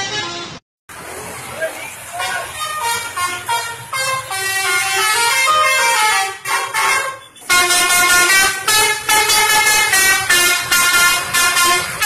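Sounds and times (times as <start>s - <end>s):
multi-tone bus horn tune: 0.0s - 0.6s, 2.1s - 12.0s.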